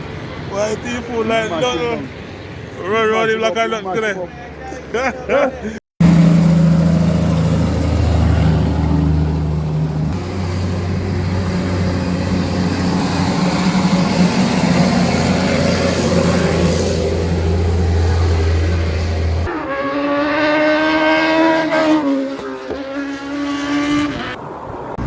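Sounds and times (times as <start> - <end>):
road noise: 0.0 - 25.0
vehicle engine hum: 4.3 - 25.0.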